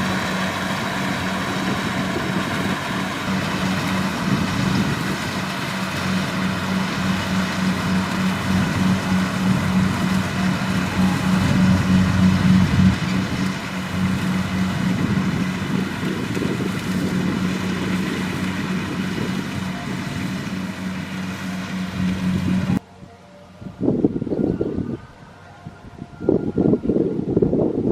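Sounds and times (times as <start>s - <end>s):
working machinery noise: 0.0s - 24.9s
diesel engine humming: 0.0s - 27.7s.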